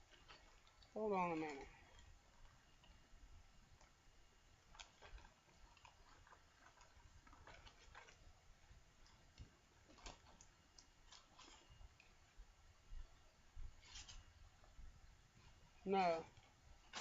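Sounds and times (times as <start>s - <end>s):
rustles: 0.0s - 17.0s.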